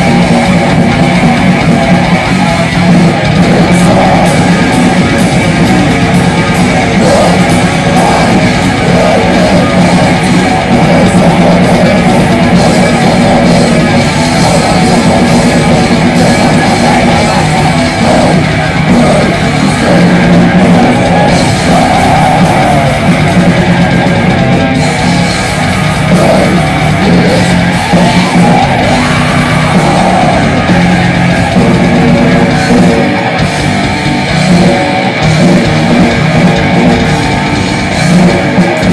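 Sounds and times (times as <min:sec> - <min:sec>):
bass guitar: 0:00.0 - 0:38.9
distorted electric guitar: 0:00.0 - 0:38.9
drum kit: 0:00.0 - 0:38.9.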